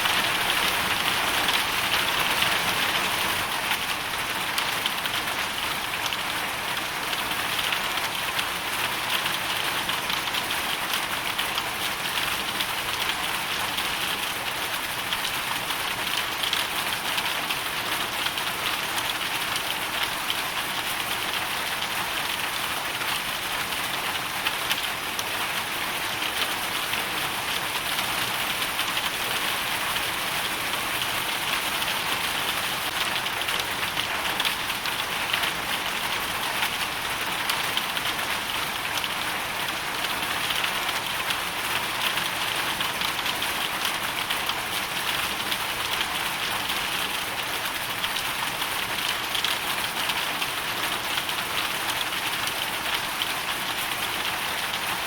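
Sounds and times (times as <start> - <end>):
hail and rain pattering: 0.0 - 55.0.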